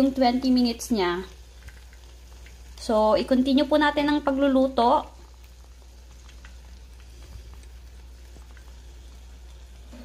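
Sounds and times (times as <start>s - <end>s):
air fryer low hum: 0.0s - 10.0s
chicken sizzling and crackling: 0.0s - 10.0s.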